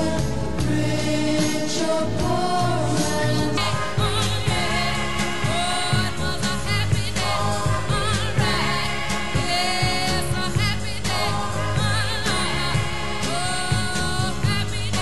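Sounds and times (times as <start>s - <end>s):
pop record with sung vocals: 0.0s - 15.0s.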